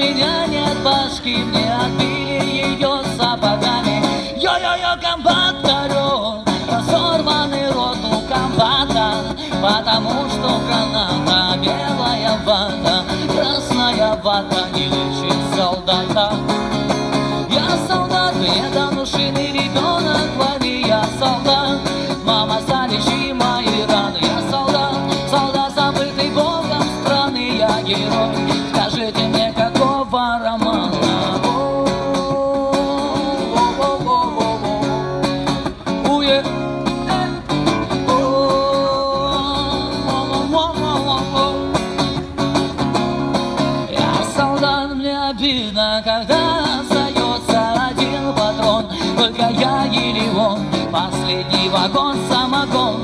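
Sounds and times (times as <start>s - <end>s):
acoustic guitar strumming: 0.0s - 53.0s
man singing rock song: 0.0s - 53.0s.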